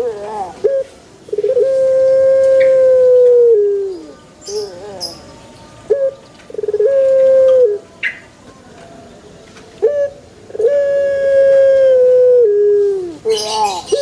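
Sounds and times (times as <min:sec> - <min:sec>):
turtle dove cooing: 0:00.0 - 0:08.2, 0:09.8 - 0:14.0.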